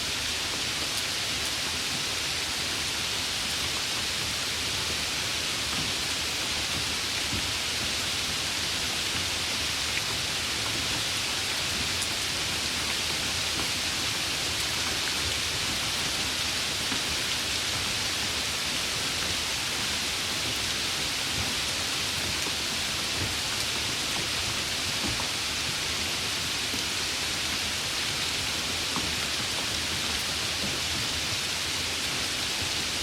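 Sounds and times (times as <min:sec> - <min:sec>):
heavy rain hissing: 0:00.0 - 0:33.0.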